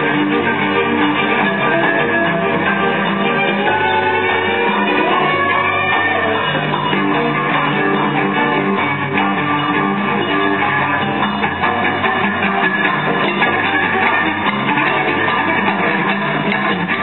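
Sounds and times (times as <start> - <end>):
cello: 0.0 - 17.0
jazz band playing live: 0.0 - 17.0.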